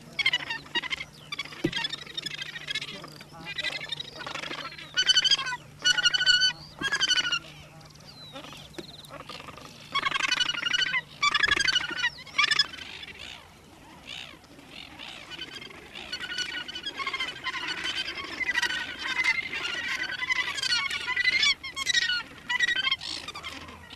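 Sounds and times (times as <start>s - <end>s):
gannets calling: 0.0s - 23.9s.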